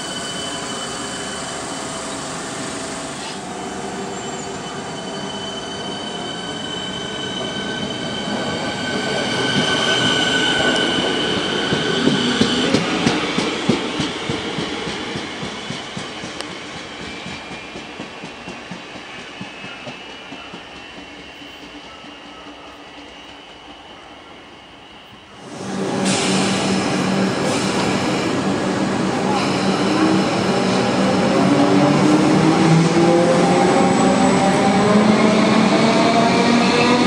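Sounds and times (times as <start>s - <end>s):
electric train whine: 0.0s - 37.0s.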